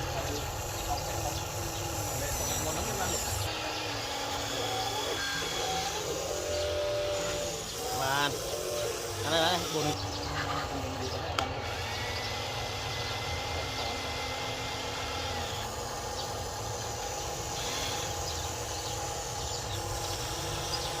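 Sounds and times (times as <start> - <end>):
small electric motors whirring: 0.0 - 21.0.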